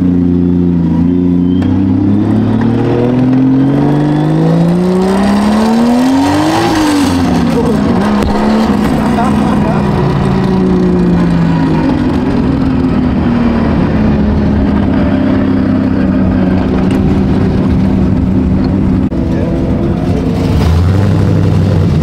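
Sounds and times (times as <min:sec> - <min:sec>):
car engine revving hard: 0:01.1 - 0:22.0.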